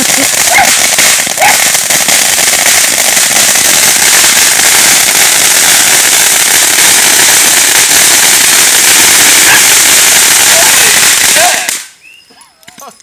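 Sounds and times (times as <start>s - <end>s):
firework fountain hissing: 0.0s - 12.2s.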